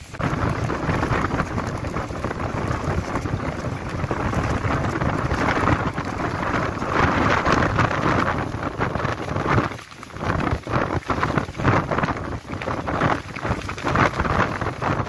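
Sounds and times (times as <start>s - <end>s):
strong wind gusting: 0.0s - 15.0s.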